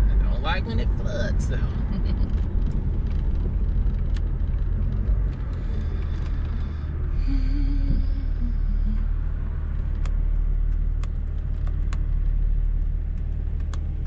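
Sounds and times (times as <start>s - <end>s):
car engine rumble: 0.0s - 14.0s
road noise inside car: 0.0s - 14.0s.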